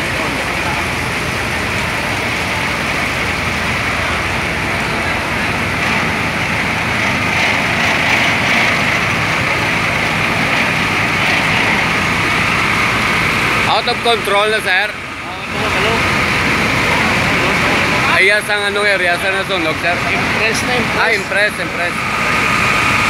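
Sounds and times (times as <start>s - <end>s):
fire truck engines running: 0.0s - 23.0s.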